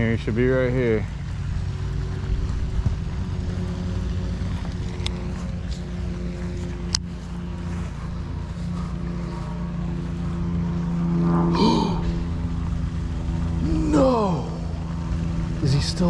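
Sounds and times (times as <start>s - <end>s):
engine drone: 0.0s - 16.0s
low rumble: 0.0s - 16.0s.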